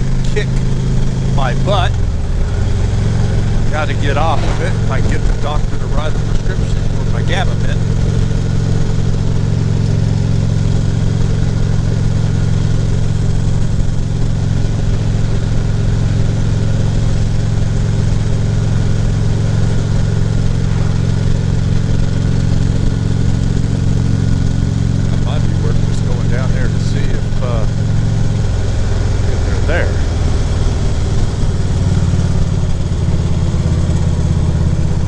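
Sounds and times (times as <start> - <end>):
motorcycle engine cruising: 0.0 - 35.0
wind and road noise: 0.0 - 35.0.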